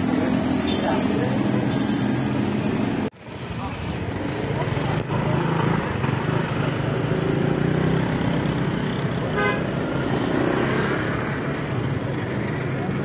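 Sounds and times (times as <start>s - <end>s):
motorcycle and car engines: 0.0s - 13.0s.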